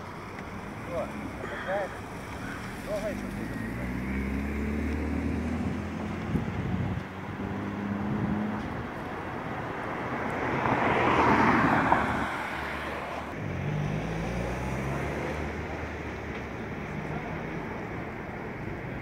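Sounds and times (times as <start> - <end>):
street traffic: 0.0 - 19.0
car passing on wet road: 0.1 - 15.8.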